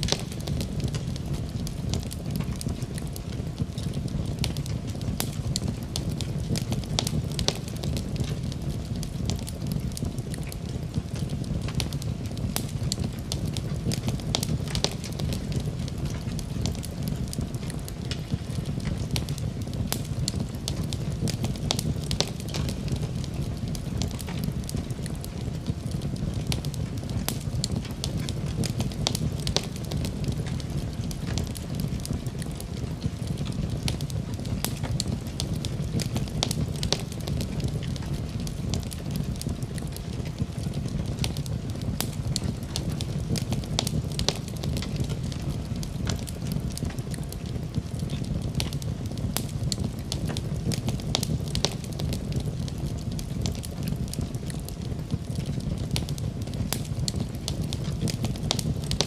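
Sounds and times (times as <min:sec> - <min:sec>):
fire flames rumbling: 0:00.0 - 0:59.0
wood fire crackling and popping: 0:00.0 - 0:59.0.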